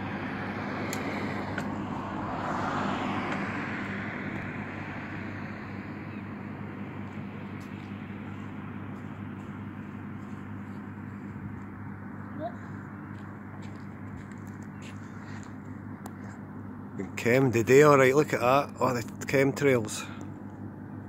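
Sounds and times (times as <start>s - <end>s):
vehicle passing: 0.0s - 20.8s
low engine hum: 0.0s - 21.0s.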